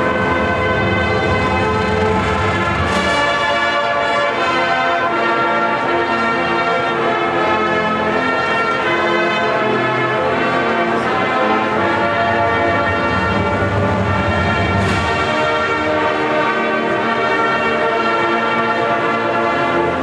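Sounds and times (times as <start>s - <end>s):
marching band brass chords: 0.0s - 20.0s.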